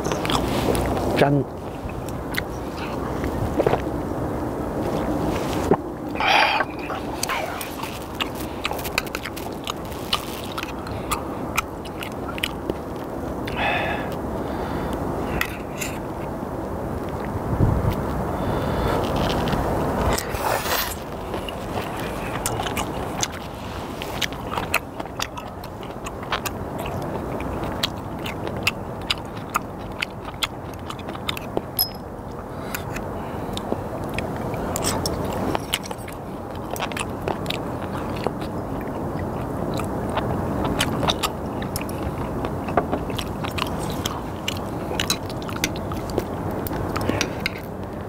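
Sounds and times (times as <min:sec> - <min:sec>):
person chewing with crunches: 0:00.0 - 0:04.0, 0:04.8 - 0:16.4, 0:17.0 - 0:48.0.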